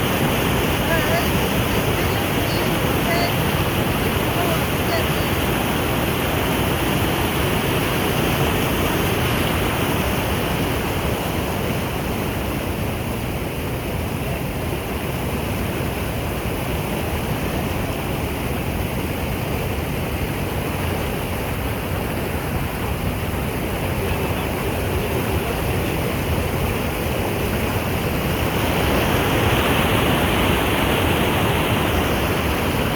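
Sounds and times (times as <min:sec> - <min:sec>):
water rushing: 0:00.0 - 0:32.9.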